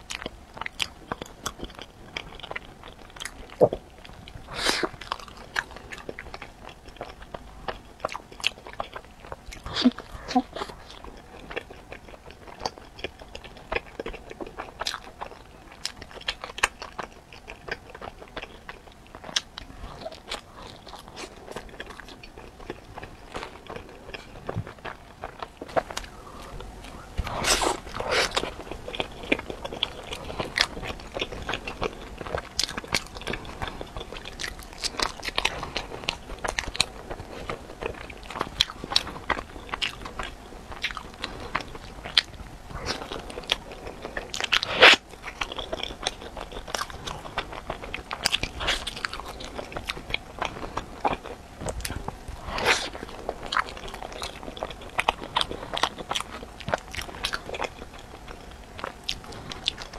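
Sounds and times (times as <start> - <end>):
biting and chewing bread: 0.0 - 59.9.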